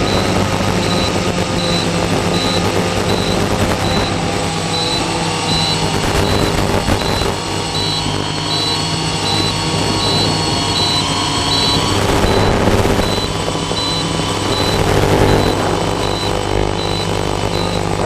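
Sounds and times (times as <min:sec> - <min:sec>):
drone motors humming: 0:00.0 - 0:18.0.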